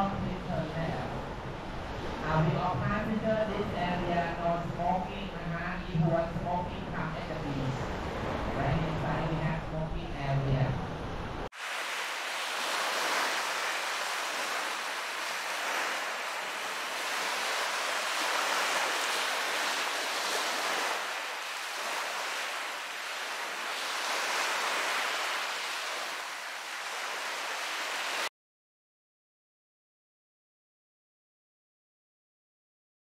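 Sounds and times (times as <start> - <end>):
sea waves washing: 0.0 - 28.3.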